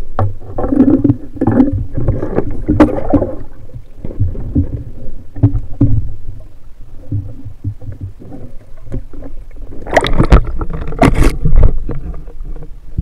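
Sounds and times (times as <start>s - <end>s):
water movement underwater: 0.0s - 13.0s.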